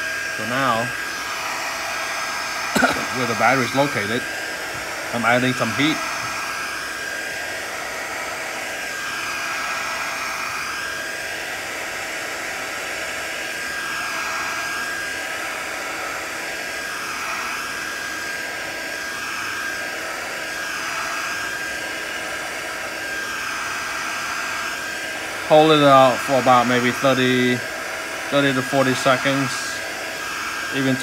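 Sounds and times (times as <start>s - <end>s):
hot-air blower running: 0.0s - 31.0s.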